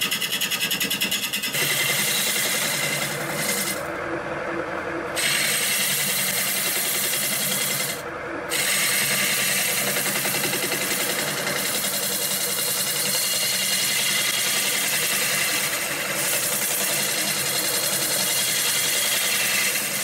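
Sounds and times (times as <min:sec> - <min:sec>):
lathe humming: 0:00.0 - 0:20.0.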